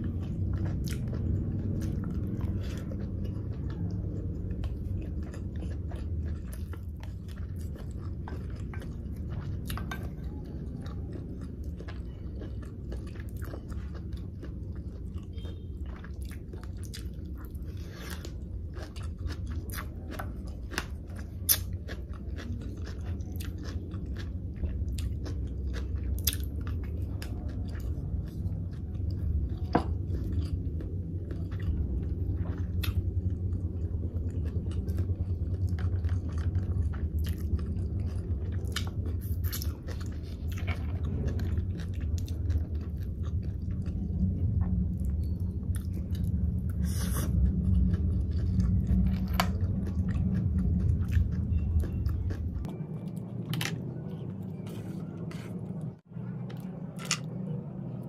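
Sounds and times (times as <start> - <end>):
chewing with wet clicks: 0.0 - 57.5
low steady hum: 0.0 - 58.0.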